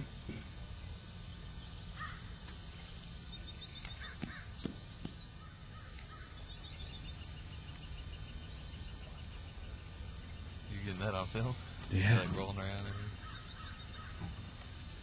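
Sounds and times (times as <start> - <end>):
high chattering bird chirps: 0.8 - 11.8, 12.5 - 15.0
bird calls: 1.5 - 11.8, 12.4 - 15.0.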